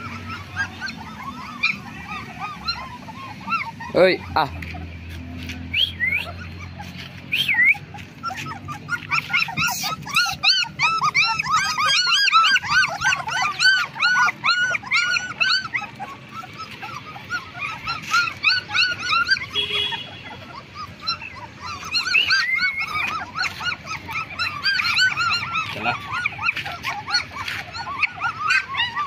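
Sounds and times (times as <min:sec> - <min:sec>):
puppies whimpering and squealing: 0:00.0 - 0:29.0.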